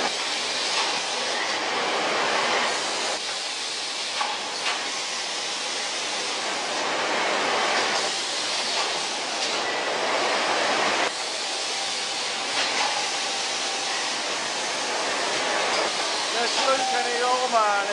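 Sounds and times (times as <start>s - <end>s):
conveyor machinery running: 0.0s - 17.9s.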